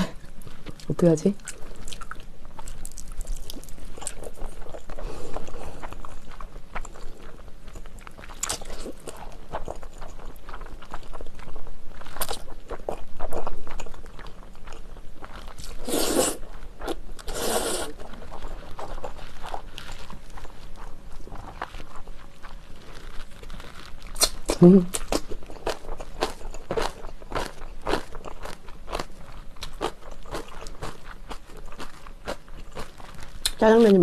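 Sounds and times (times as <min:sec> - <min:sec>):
chewing and slurping noodles: 0:01.4 - 0:33.9.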